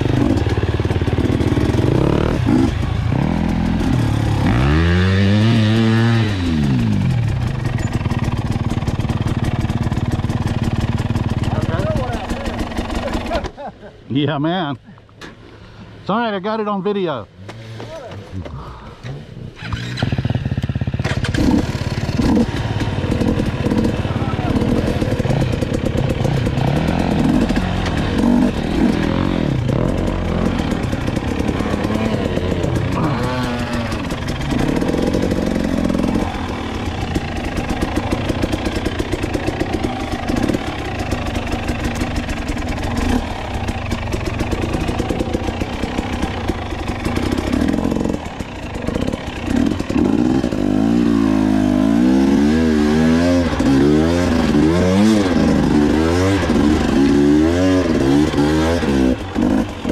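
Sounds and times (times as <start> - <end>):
dirt bike engine revving: 0.0 - 13.8, 16.2 - 59.9.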